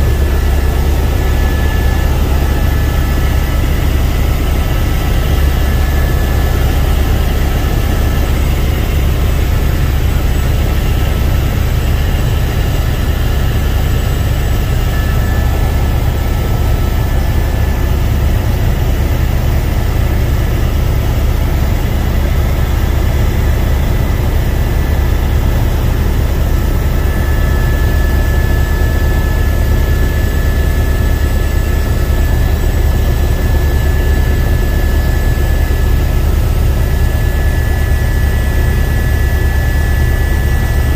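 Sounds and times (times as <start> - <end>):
helicopter rotor and engine rumble: 0.0 - 40.9
thin steady whining tones: 0.0 - 40.9.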